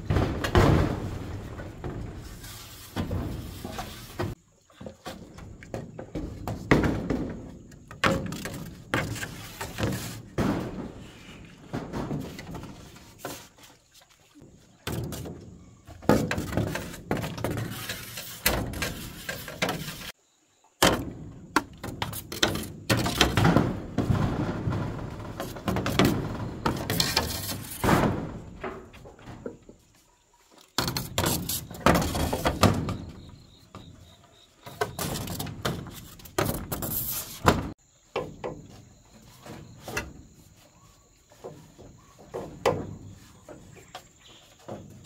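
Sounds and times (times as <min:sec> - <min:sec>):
irregular knocks and thuds: 0:00.0 - 0:20.2, 0:20.8 - 0:30.0, 0:30.8 - 0:45.0.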